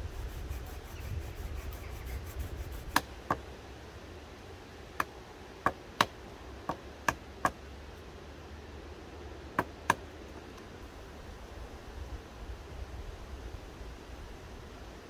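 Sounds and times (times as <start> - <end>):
steady low background noise: 0.0 - 15.0.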